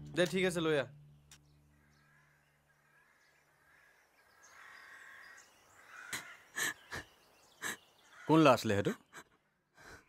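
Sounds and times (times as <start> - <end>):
distant birds calling: 0.0 - 10.0.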